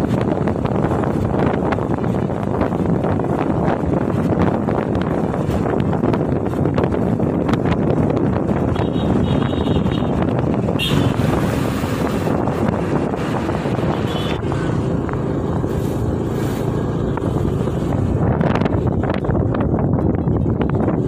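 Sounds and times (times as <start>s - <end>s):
motorcycle engine rumble: 0.0s - 21.0s
wind rushing over microphone: 0.0s - 21.0s.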